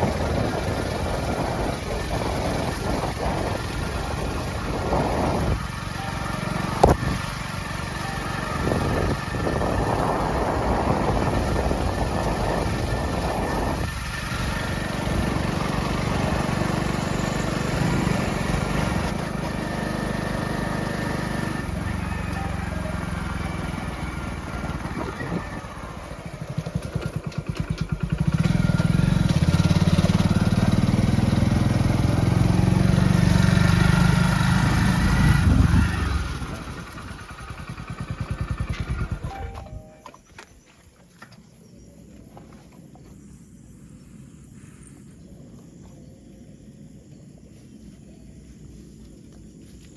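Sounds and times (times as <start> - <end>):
motorcycle engine running: 0.0 - 40.3
wind and road noise: 0.0 - 49.9.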